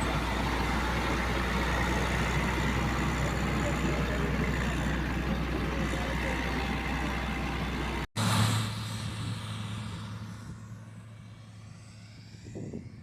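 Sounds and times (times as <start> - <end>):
heavy machinery engines running: 0.0 - 11.8
engine humming: 0.0 - 13.0.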